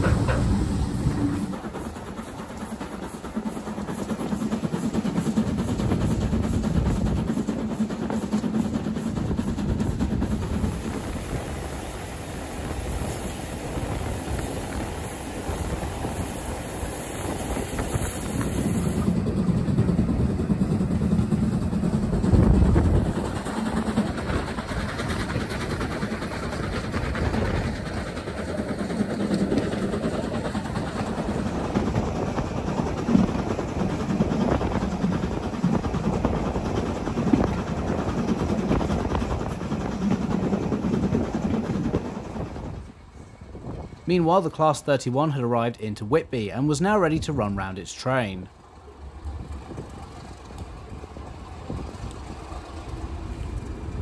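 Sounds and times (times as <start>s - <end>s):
steam train rumbling on rails: 0.0s - 54.0s.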